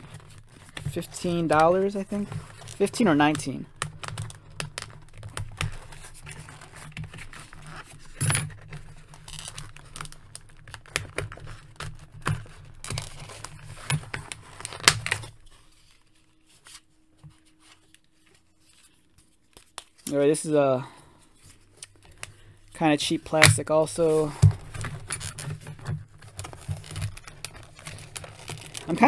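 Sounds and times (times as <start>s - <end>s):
plastic packaging clicking and crinkling: 0.0s - 16.3s, 21.0s - 29.0s.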